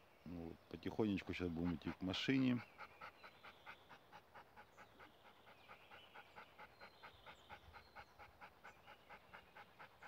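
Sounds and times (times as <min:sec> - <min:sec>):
dog panting: 0:01.2 - 0:10.0.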